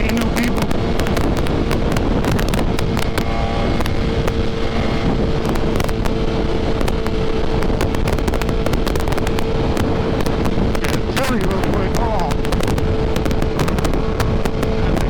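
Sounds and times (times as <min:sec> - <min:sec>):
motorcycle engine cruising: 0:00.0 - 0:15.0
wind rushing over microphone: 0:00.0 - 0:15.0.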